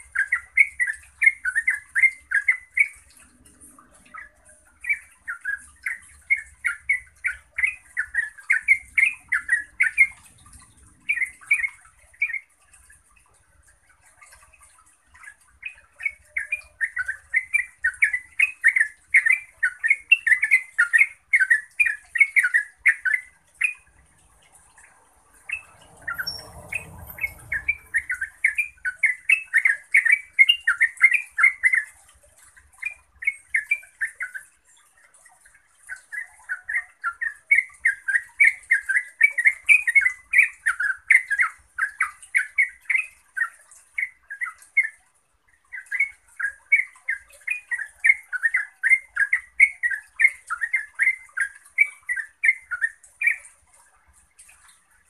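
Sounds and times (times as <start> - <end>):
bulbul singing rapid song: 0.0 - 53.7.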